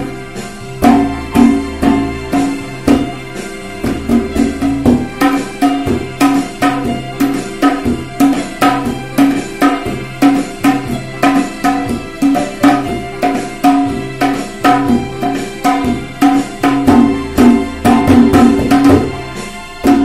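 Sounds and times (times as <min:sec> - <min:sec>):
electronic keyboard melody: 0:00.0 - 0:20.0
tabla drumming: 0:00.0 - 0:20.0.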